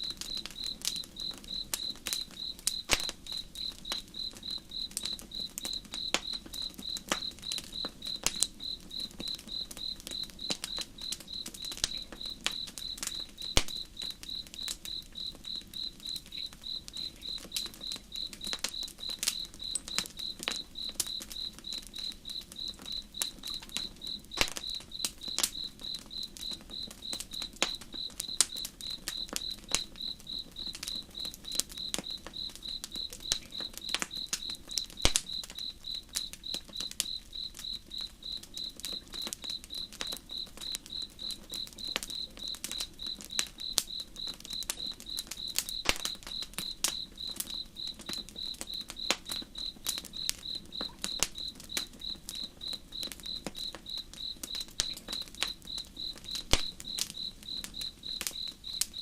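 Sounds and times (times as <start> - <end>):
campfire crackling and popping: 0.0 - 59.0
cricket chirping: 0.0 - 59.0.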